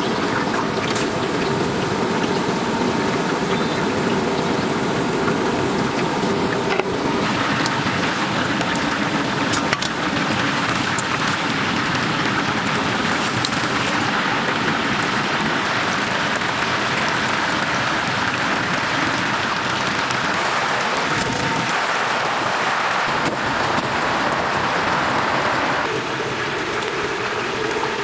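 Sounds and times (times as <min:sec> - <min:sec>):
chicken deep-frying in oil: 0:00.0 - 0:28.0.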